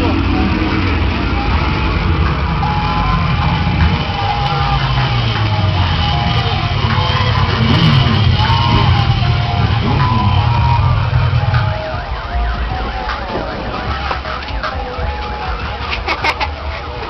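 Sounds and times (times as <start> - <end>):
siren-like wailing tones: 0.0 - 15.8
loud steady low bass: 0.0 - 17.0.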